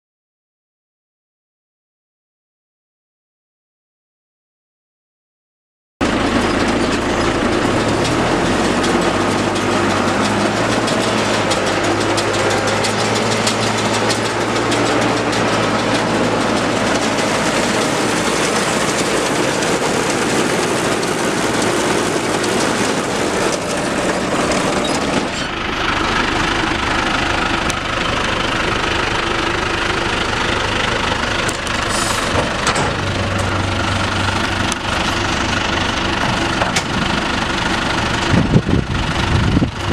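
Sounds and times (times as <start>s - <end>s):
tractor engine running: 6.0s - 39.9s.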